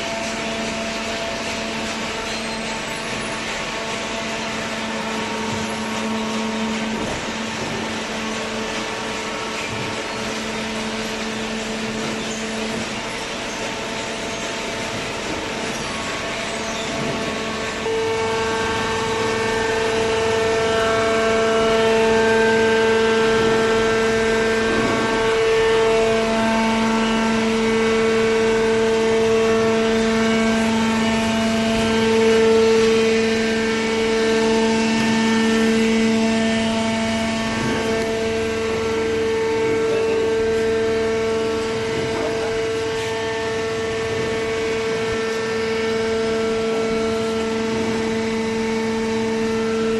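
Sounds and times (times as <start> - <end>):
hydraulic baler motor hum: 0.0 - 49.9.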